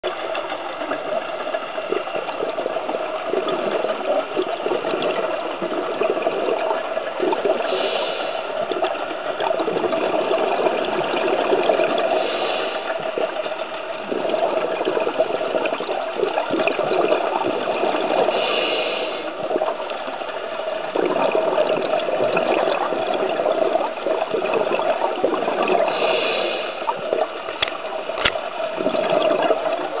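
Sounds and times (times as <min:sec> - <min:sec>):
underwater bubbles and breathing: 0:00.0 - 0:30.0.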